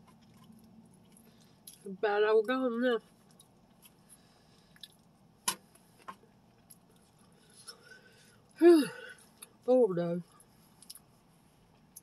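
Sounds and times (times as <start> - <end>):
quiet chewing: 0.0 - 1.9, 3.0 - 9.6, 10.3 - 12.0.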